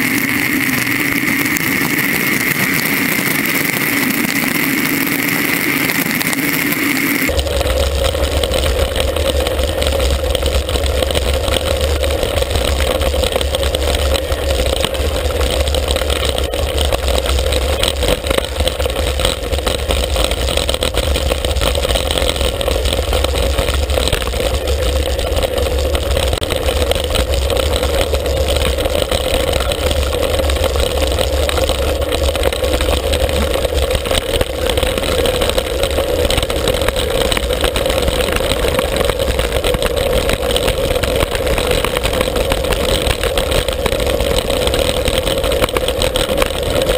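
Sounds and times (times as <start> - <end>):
tyres rolling on gravel: 0.0 - 46.9.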